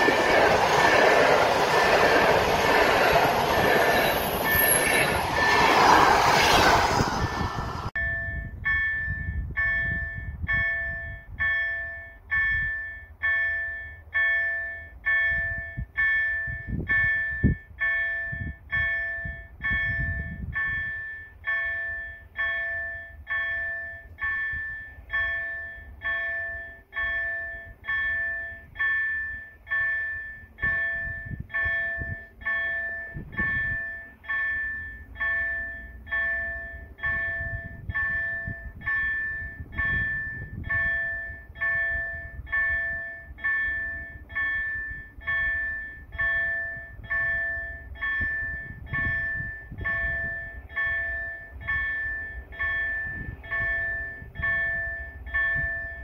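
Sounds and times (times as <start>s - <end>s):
level crossing warning bell: 0.0s - 5.9s, 7.9s - 56.0s.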